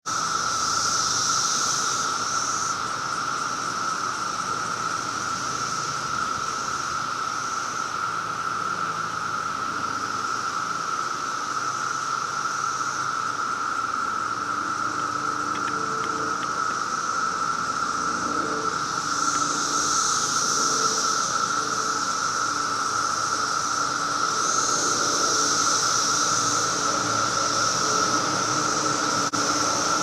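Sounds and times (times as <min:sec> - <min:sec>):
cicadas droning: 0:00.0 - 0:30.0
high hiss: 0:00.1 - 0:30.0.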